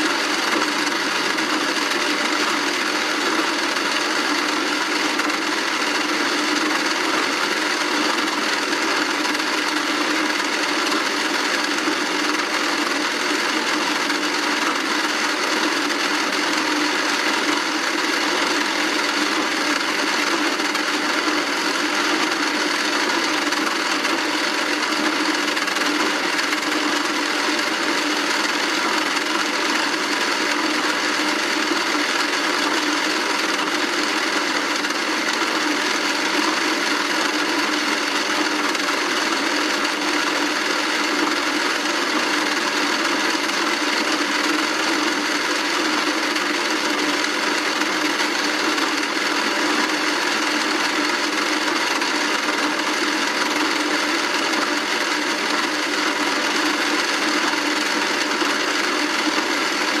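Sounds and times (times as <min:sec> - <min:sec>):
toy washing machine motor whirring: 0:00.0 - 1:00.0.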